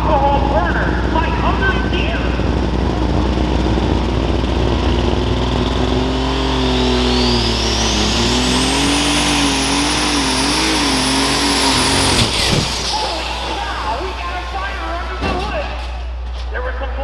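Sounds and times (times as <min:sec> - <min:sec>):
tractor engine running hard: 0:00.0 - 0:16.4
turbocharger whine: 0:00.0 - 0:16.4.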